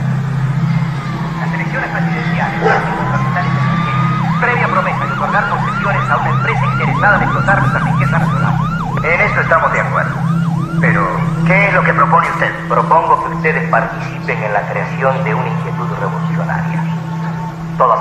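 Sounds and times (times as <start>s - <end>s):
steady low hum: 0.0s - 18.0s
siren yelping: 0.4s - 18.0s.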